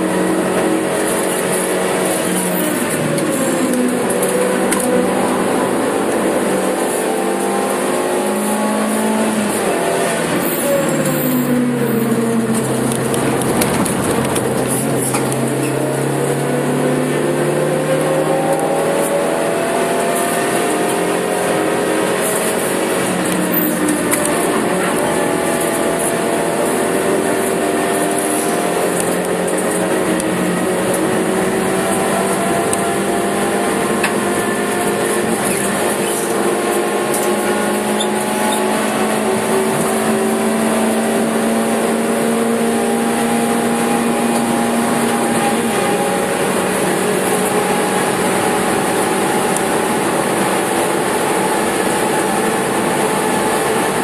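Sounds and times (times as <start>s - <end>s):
car engine pulling hard: 0.0s - 54.0s
road and wind noise: 0.0s - 54.0s.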